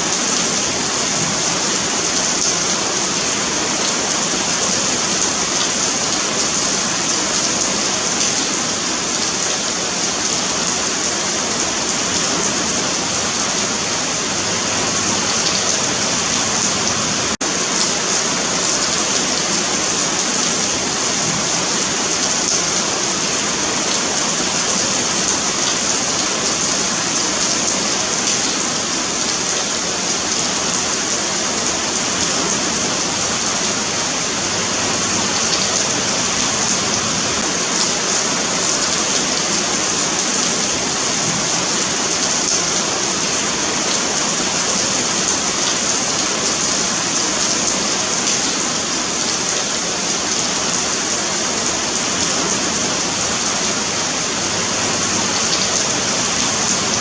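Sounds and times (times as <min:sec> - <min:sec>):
rain falling on pavement: 0:00.0 - 0:57.0.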